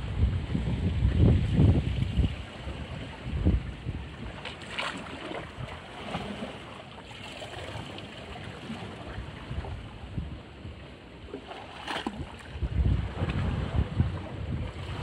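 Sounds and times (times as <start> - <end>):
wind buffeting microphone: 0.0 - 6.6, 7.7 - 10.9, 12.0 - 15.0
water lapping against rocks: 1.2 - 10.2, 11.2 - 15.0.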